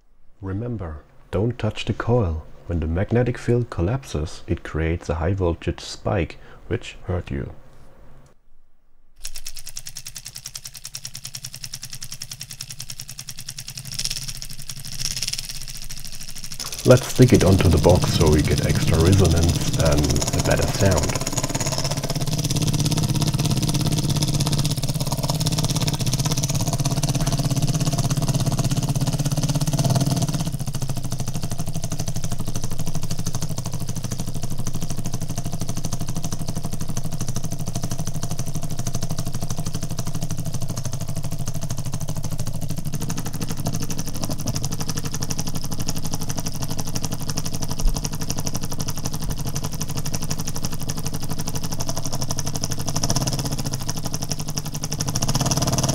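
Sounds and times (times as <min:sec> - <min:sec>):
solenoid engine clattering: 0:09.2 - 0:55.9.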